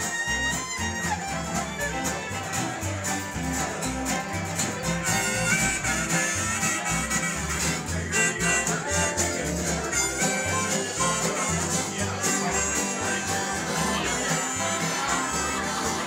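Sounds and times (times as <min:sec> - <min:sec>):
fiddles: 0:00.0 - 0:16.0
strummed acoustic guitars: 0:00.0 - 0:16.0
upright bass plucking: 0:00.0 - 0:16.0.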